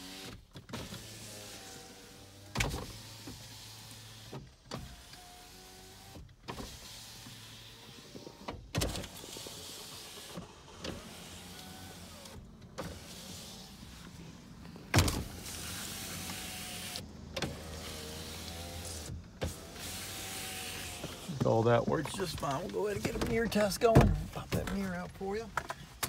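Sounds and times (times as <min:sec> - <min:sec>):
power window motor running: 0:00.0 - 0:23.9.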